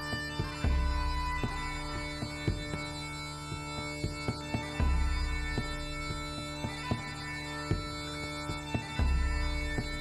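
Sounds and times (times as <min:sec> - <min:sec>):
bagpipe music: 0:00.0 - 0:10.0.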